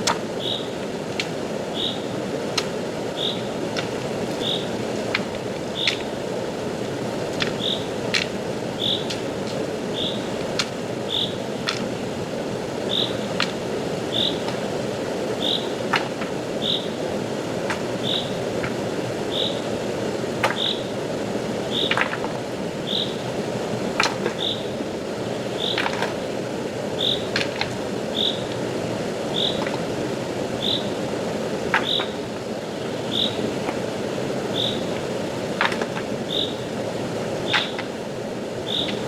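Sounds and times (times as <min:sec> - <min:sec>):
stream water rushing: 0:00.0 - 0:39.0.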